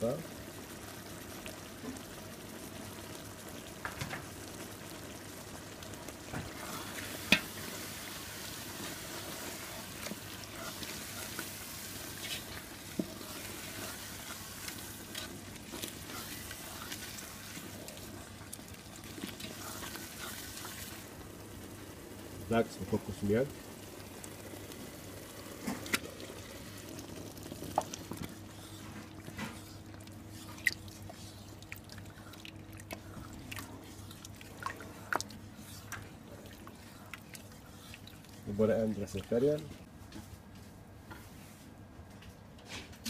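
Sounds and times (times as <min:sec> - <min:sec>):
masala sizzling in a pan: 0:00.0 - 0:39.9.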